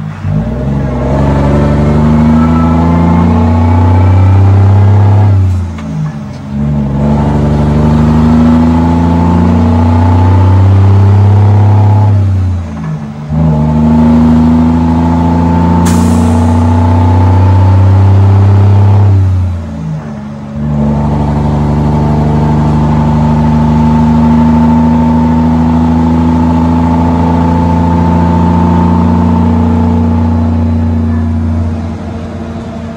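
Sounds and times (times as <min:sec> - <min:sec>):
diesel truck engine pulling hard: 0:00.0 - 0:32.9.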